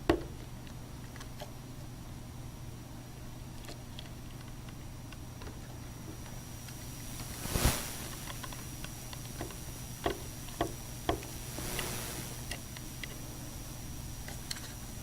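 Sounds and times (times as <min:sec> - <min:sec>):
steady low hum: 0:01.6 - 0:15.0.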